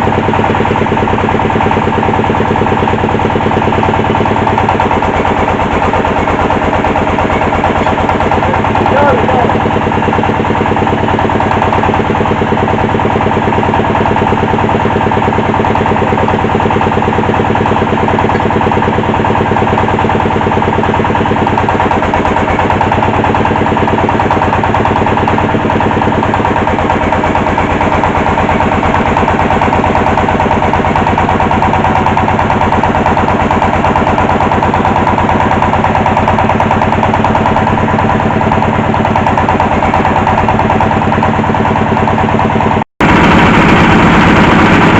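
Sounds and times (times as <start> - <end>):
drilling machine engine running: 0.0 - 44.9.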